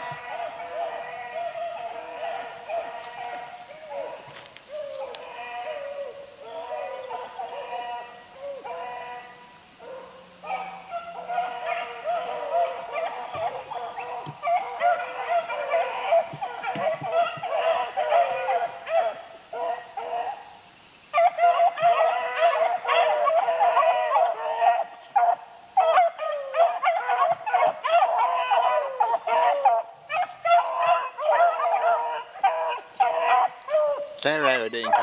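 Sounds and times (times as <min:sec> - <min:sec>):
dogs baying: 0:00.0 - 0:20.5, 0:21.1 - 0:35.0.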